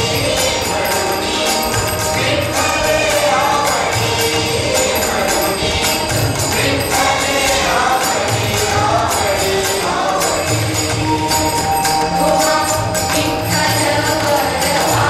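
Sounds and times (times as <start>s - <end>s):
chorus singing devotional song: 0.0s - 15.0s
jingling percussion: 0.0s - 15.0s.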